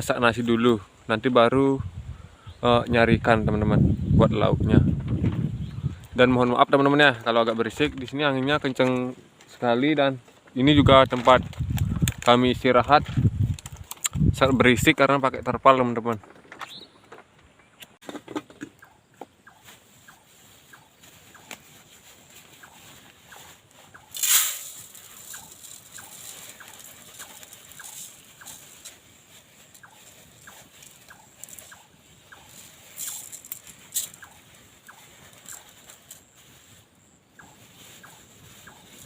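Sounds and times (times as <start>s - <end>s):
tarp rustling in wind: 1.9s - 9.0s, 9.6s - 15.8s, 19.4s - 39.0s.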